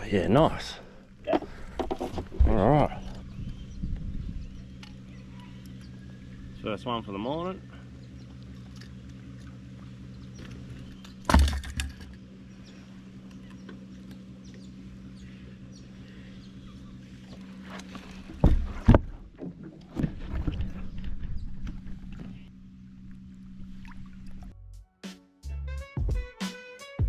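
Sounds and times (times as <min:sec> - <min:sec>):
boat motor humming: 0:00.0 - 0:24.7.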